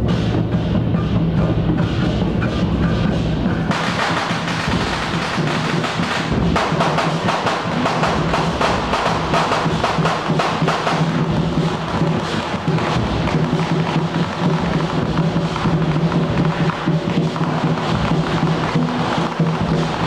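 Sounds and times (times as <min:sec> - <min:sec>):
clattering percussion: 0:00.0 - 0:20.0
drums beating: 0:00.0 - 0:20.0.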